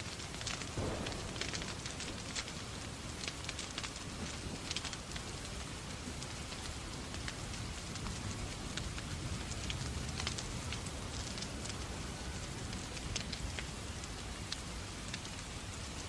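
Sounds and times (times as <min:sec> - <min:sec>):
rain hissing: 0:00.0 - 0:16.0
wood fire crackling: 0:00.0 - 0:16.0.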